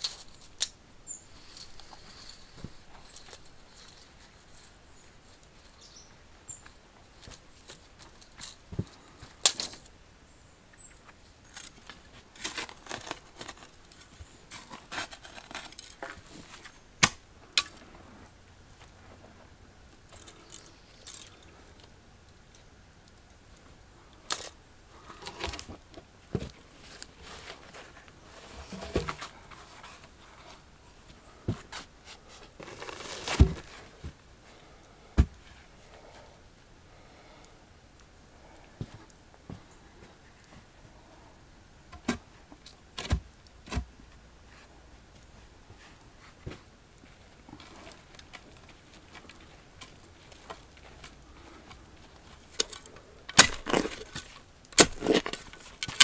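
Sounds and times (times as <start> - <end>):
scraping and rustling in dirt: 0.0 - 10.0, 10.7 - 22.0, 24.0 - 36.3, 42.0 - 56.0.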